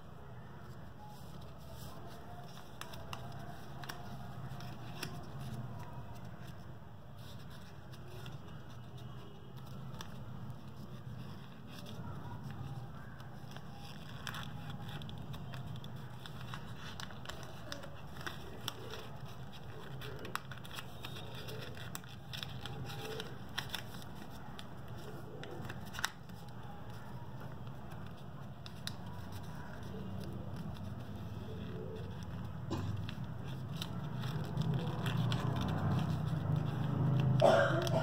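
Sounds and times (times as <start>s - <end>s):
paper crinkling and crackling: 0.3s - 38.0s.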